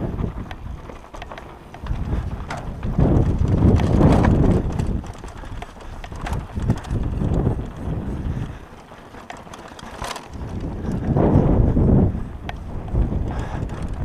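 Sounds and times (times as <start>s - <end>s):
bike knocking and rattling: 0.0s - 14.0s
bike tyres rumbling on trail: 0.0s - 14.0s
wind buffeting microphone: 0.0s - 14.0s.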